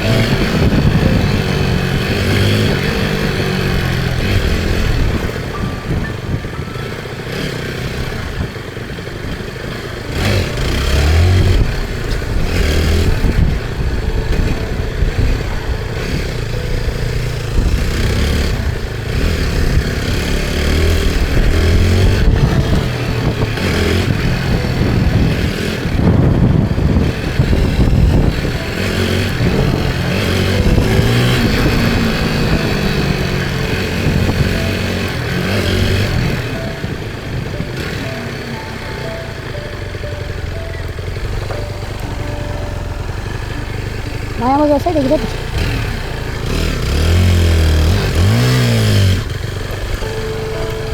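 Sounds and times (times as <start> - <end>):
motorcycle engine running: 0.0 - 50.9
road and wind noise: 0.0 - 50.9.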